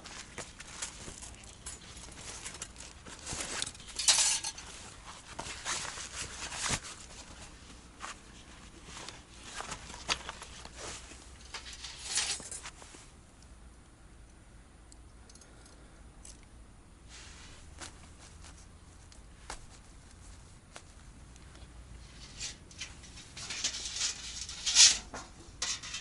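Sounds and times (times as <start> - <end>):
gear rustling: 0.0 - 13.1, 17.2 - 26.0.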